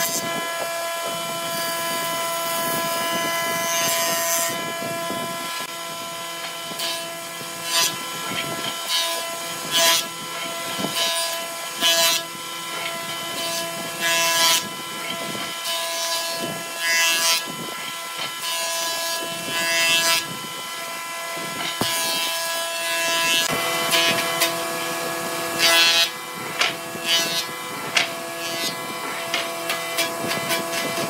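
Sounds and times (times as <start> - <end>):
jointer humming and whining: 0.0 - 31.0
wood cutting bursts: 0.0 - 31.0.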